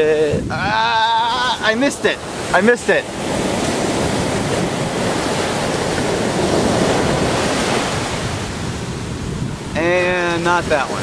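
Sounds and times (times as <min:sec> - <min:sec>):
surf breaking on beach: 0:00.2 - 0:11.0.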